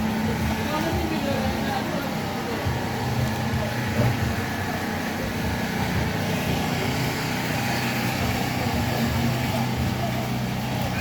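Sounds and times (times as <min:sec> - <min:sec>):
engine humming: 0:00.0 - 0:11.0
street noise: 0:00.0 - 0:11.0.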